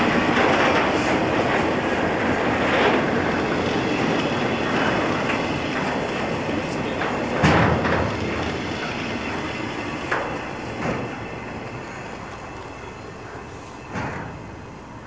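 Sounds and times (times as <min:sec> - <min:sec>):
freight train rolling on rails: 0:00.0 - 0:15.0.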